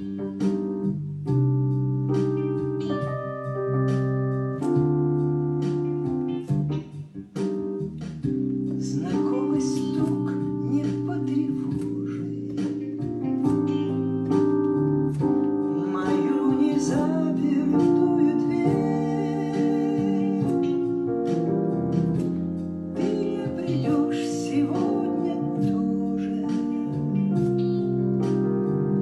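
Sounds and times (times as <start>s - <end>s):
guitar: 0.0s - 29.0s
held keyboard chords: 0.0s - 29.0s.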